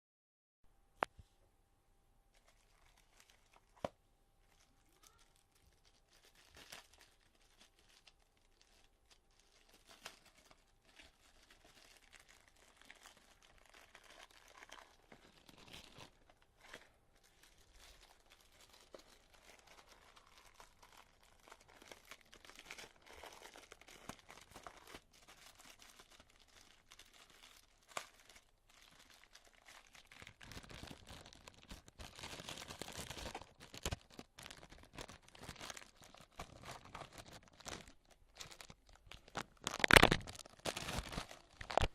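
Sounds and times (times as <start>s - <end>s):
packaging rustling and tearing: 2.4s - 41.9s.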